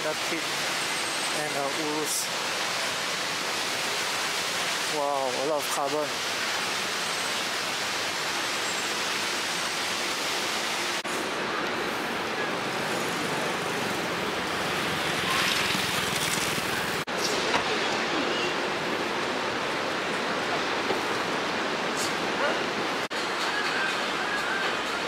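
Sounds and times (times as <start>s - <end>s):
city traffic hiss: 0.0s - 25.0s.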